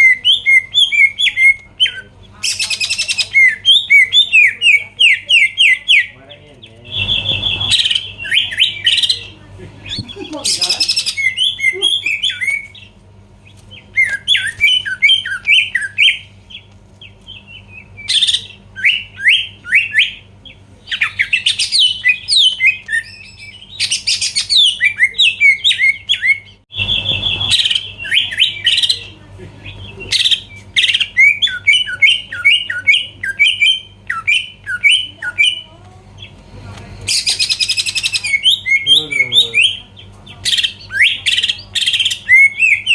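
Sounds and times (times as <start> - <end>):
bird singing rapid chirps: 0.0 - 36.4, 37.1 - 42.9
faint low hum: 0.0 - 42.9.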